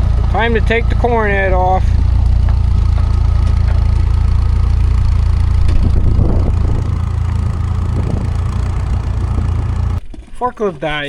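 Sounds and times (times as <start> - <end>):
forklift engine idling: 0.0 - 10.0.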